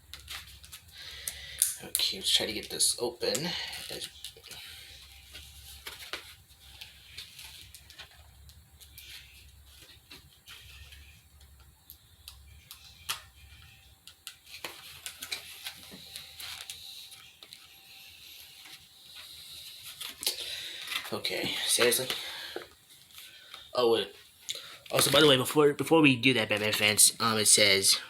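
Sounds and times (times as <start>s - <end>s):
plastic packaging clicks and crinkles: 0.0s - 25.5s.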